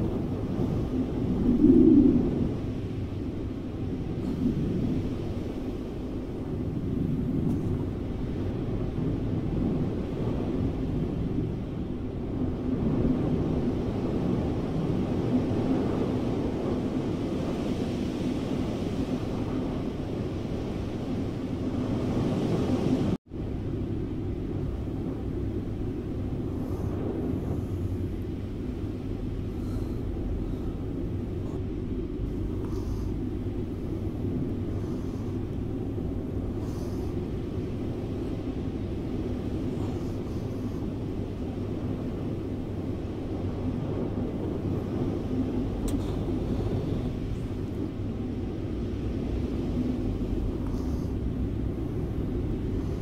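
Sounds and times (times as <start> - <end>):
low rushing wind rumble: 0.0 - 53.0.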